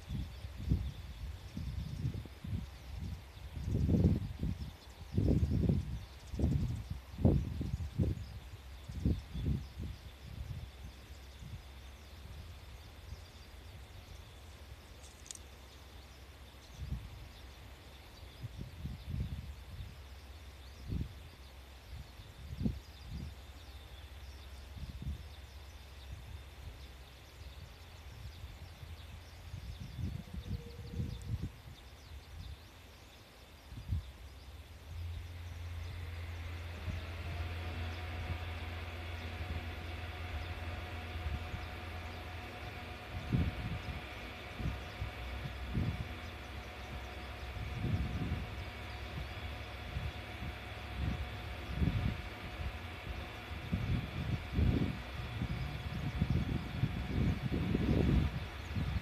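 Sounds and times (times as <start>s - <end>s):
wind buffeting microphone: 0.0s - 15.0s, 16.4s - 23.6s, 24.3s - 32.7s, 33.6s - 59.0s
railcar diesel engines rumbling: 0.0s - 59.0s
small birds chirping: 0.0s - 59.0s.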